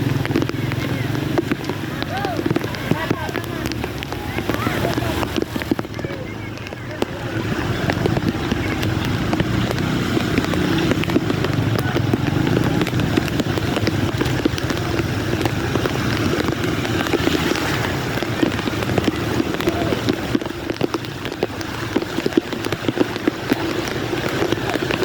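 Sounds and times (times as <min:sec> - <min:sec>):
heavy rain: 0:00.0 - 0:25.0
raindrops ticking: 0:00.0 - 0:25.0
vehicle engine running: 0:00.0 - 0:25.0.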